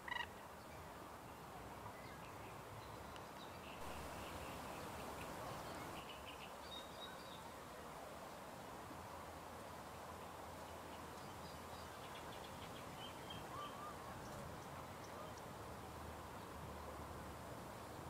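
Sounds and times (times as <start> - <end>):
park ambience hiss: 0.0 - 18.0.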